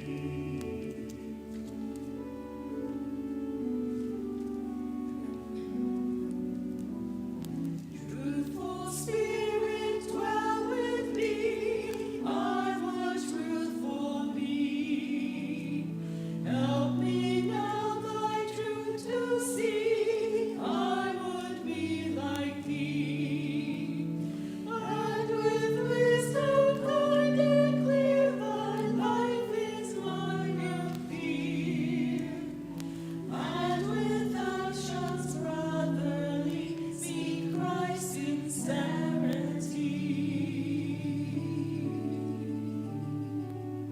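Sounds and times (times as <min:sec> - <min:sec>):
choir singing: 0:00.0 - 0:03.1, 0:07.9 - 0:43.9.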